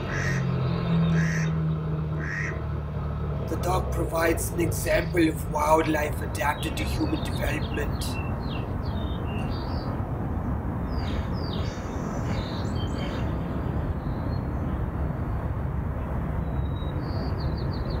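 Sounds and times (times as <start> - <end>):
birds chirping: 0.0 - 2.6, 3.5 - 18.0
low outdoor rumble: 0.0 - 18.0.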